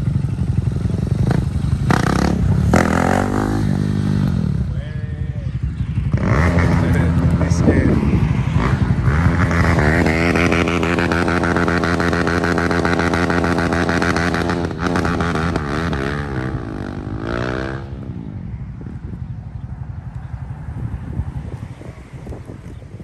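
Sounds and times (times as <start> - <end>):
motorbike engine revving: 0.0 - 22.2.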